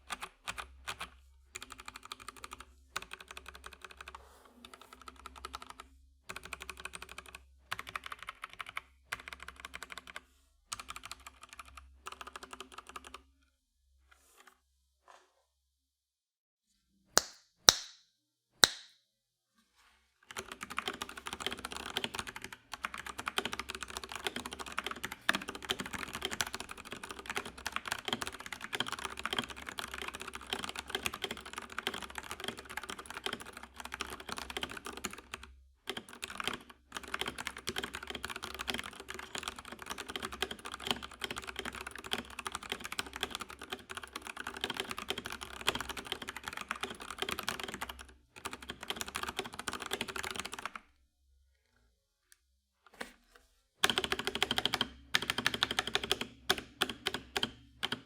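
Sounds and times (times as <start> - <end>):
fast typing on mechanical keyboard: 0.0 - 13.2, 20.3 - 50.8, 53.8 - 58.0.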